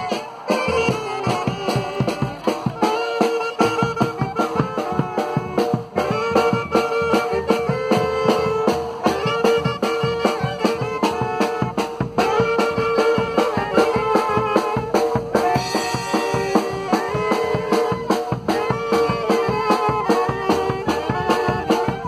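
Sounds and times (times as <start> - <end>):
clarinets and saxophone melody: 0.0 - 22.0
snare and bass drum rhythm: 0.0 - 22.0.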